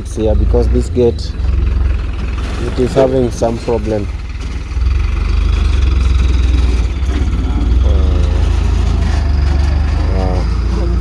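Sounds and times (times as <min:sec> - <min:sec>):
lorry engine droning at low revs: 0:00.0 - 0:11.0.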